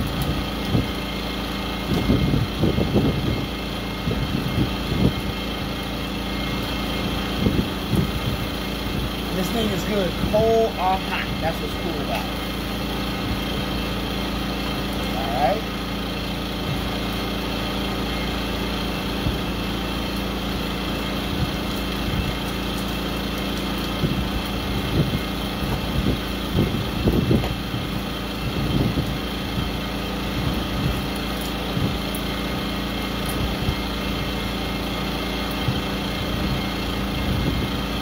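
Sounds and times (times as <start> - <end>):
steady motor hum: 0.0 - 38.0.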